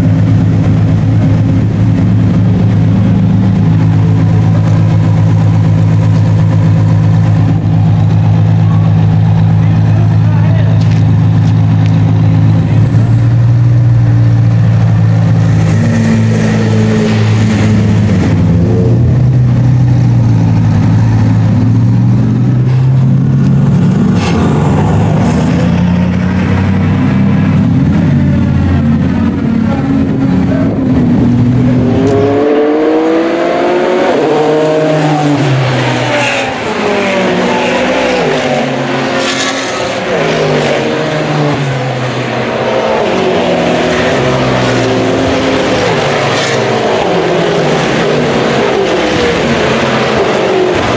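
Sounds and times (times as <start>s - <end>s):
race car engines accelerating: 0.0s - 50.9s.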